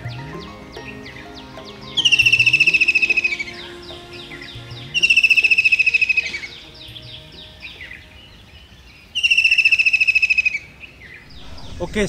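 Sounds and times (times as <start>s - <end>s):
kingfisher trilling call: 0.0s - 11.8s.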